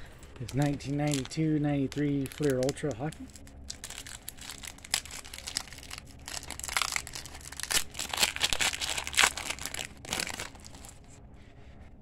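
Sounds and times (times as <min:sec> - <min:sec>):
foil wrapper tearing and crinkling: 0:00.3 - 0:11.1.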